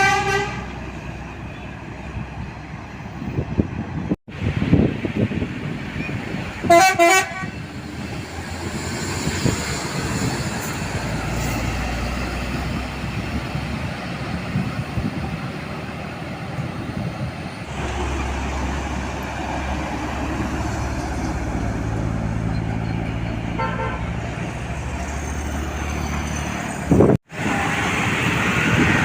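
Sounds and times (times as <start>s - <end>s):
vehicle traffic noise: 0.0s - 29.0s.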